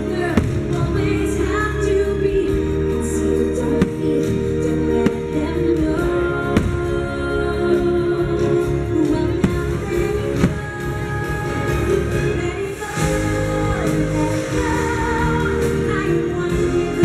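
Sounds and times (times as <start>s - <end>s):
music with choir-like singing: 0.0s - 17.0s.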